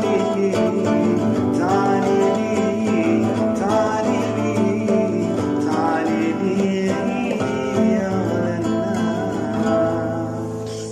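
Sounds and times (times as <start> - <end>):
guitar playing a melody: 0.0 - 10.9.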